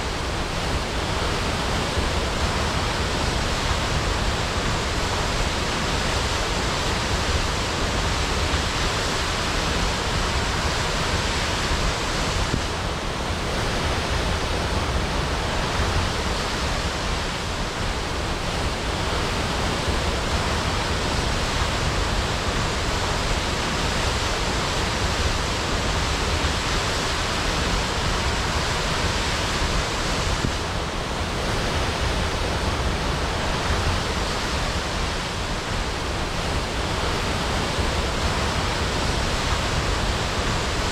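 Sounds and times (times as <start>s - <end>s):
waterfall crashing: 0.0s - 40.9s.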